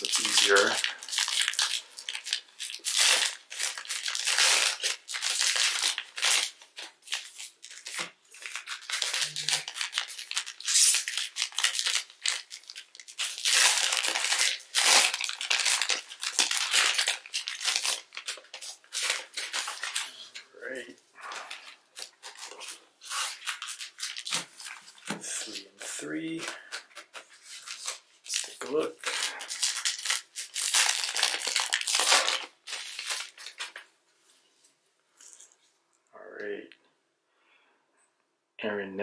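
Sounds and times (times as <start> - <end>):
plastic wrappers tearing and crinkling: 0.0 - 20.4, 21.2 - 33.9.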